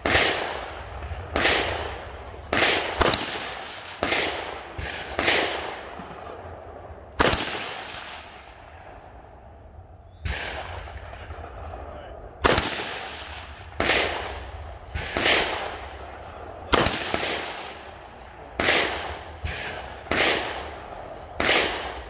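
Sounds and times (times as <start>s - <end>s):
rifle shots echoing: 0.0s - 22.0s.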